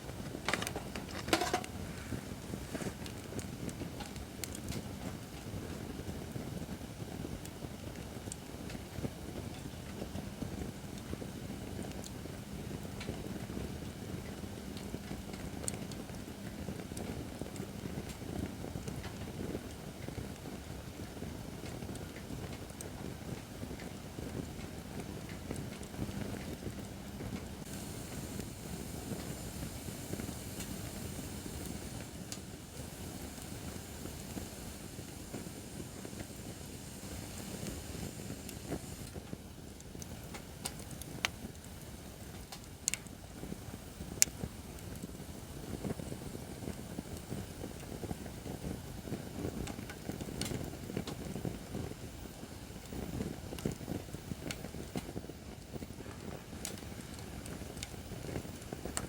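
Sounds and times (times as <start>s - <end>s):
campfire flame rushing: 0.0s - 59.0s
fire crackling and popping: 0.0s - 59.0s.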